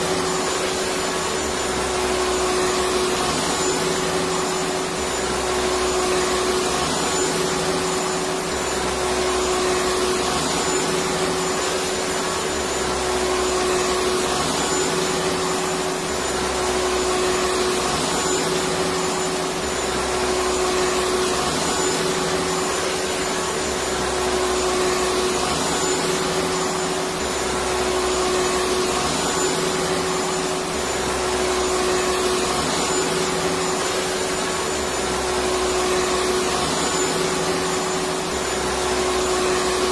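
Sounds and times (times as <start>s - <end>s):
vacuum cleaner motor whirring: 0.0s - 39.9s.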